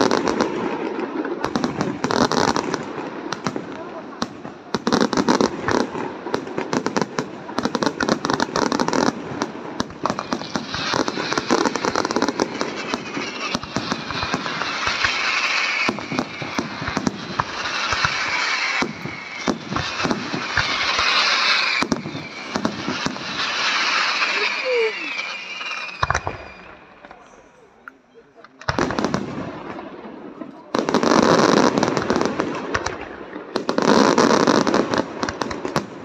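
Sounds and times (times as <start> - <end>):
firework crackle: 0.0 - 36.0.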